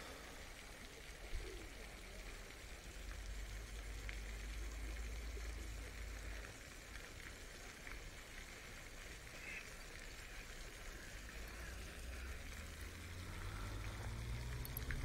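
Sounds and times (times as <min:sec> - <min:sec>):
faint ticks: 0:00.0 - 0:15.0
running water hiss: 0:00.0 - 0:15.0.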